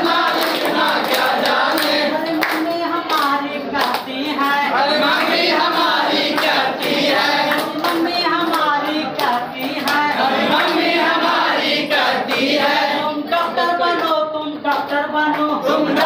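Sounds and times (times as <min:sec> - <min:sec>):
hand claps: 0:00.0 - 0:12.8, 0:13.4 - 0:16.0
group of people singing: 0:00.0 - 0:16.0.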